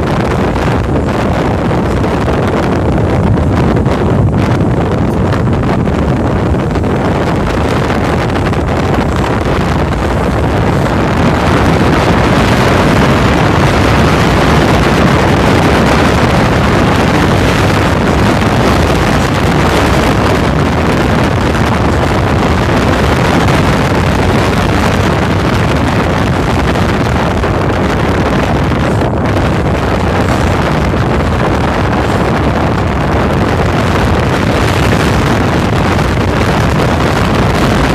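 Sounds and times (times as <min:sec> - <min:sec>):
boat engine drone: 0:00.0 - 0:37.9
wind buffeting microphone: 0:00.0 - 0:37.9.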